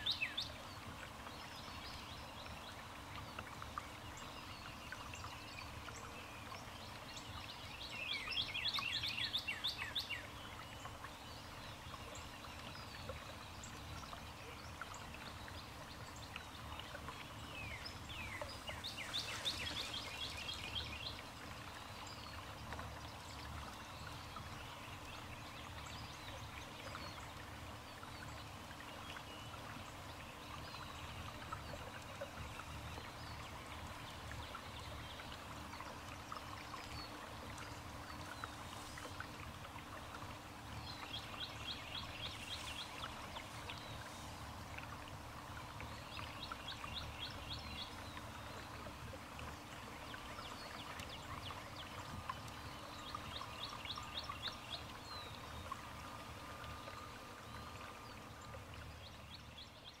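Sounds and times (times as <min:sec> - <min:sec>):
rushing water noise: 0:00.0 - 1:00.0.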